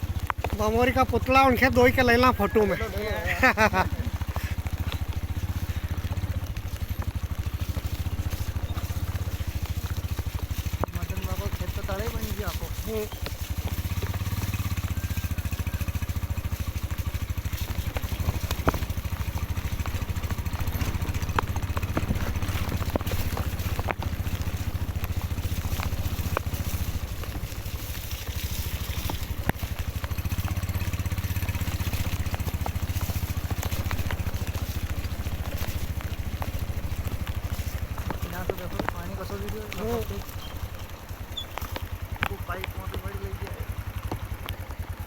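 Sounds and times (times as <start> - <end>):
water pump motor pulsing: 0.0 - 44.2.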